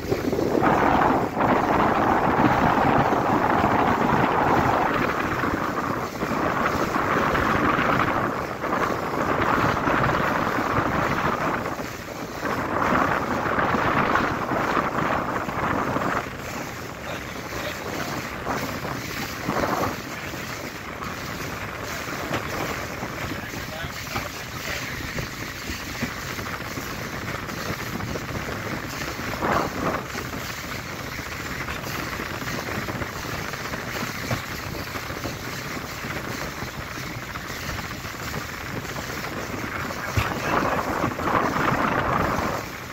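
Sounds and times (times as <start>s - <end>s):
boat motor: 0.0s - 42.9s
water rushing against hull: 0.0s - 42.9s
wind buffeting microphone: 0.0s - 42.9s.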